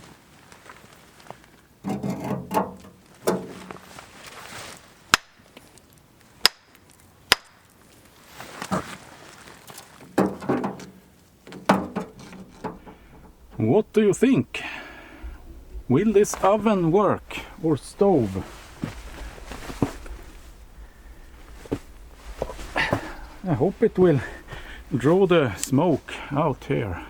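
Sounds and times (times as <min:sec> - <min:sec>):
stones scraping and clunking: 0:01.4 - 0:04.8, 0:07.9 - 0:27.0.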